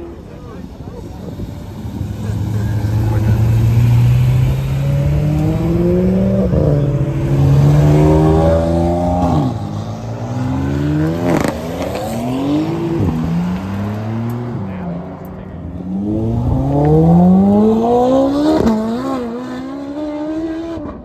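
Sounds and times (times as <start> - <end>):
car engines accelerating hard: 0.0 - 21.0.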